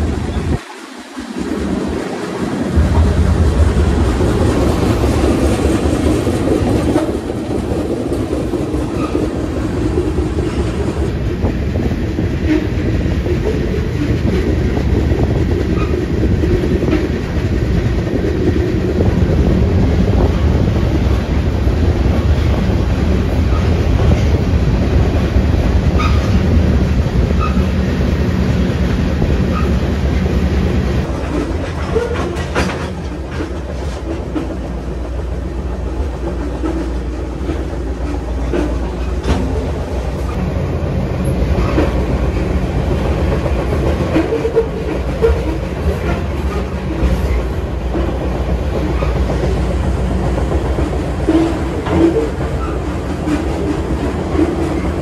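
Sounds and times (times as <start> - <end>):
train wheels rumbling on rail: 0.0 - 55.0
wheels clacking over rail joints: 0.0 - 55.0.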